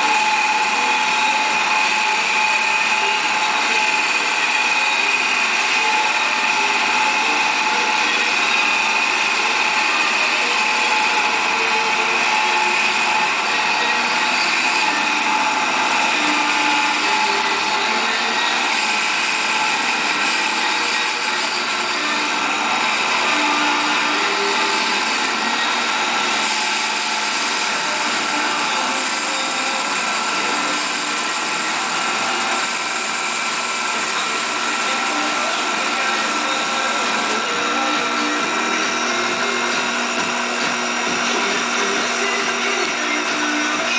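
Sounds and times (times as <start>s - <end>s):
mill motor whine: 0.0s - 43.9s
tool cutting wood: 0.0s - 43.9s.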